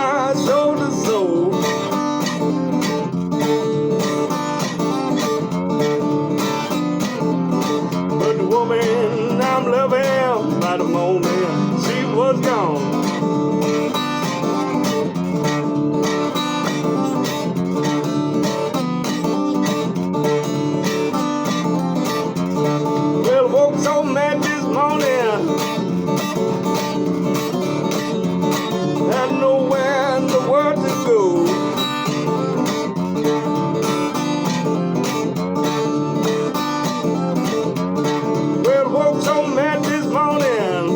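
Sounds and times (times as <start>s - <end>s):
pitch-bending guitar lead line: 0.0s - 40.9s
strummed acoustic guitar chords: 0.0s - 40.9s.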